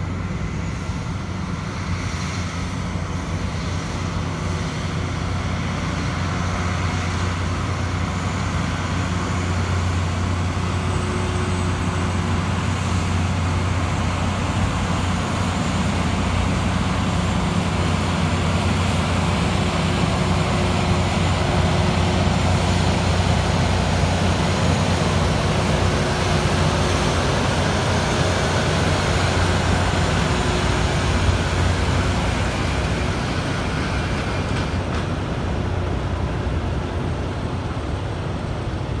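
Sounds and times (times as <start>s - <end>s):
diesel engines running: 0.0s - 39.0s
rail grinding noise: 0.0s - 39.0s.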